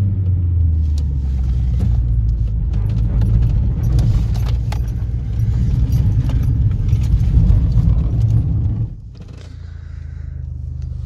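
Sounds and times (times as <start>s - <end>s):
car engine and road noise drone: 0.0s - 11.0s
loose objects rattling in car: 1.0s - 9.9s.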